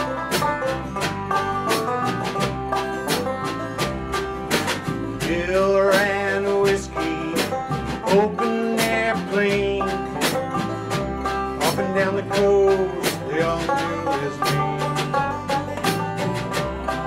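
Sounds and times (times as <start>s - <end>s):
banjo picking: 0.0s - 17.0s
strummed acoustic guitar: 0.0s - 17.0s
upright bass: 0.0s - 17.0s.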